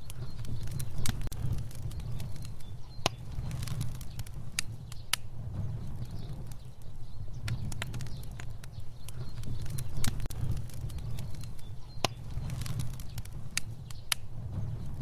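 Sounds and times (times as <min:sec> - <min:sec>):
fire burning with crackles: 0:00.0 - 0:15.0.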